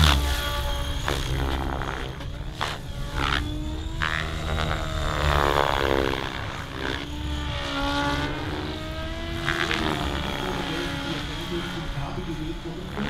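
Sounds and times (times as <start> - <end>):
rush of blade noise: 0.0 - 12.1
model helicopter rotor and motor: 0.0 - 13.0.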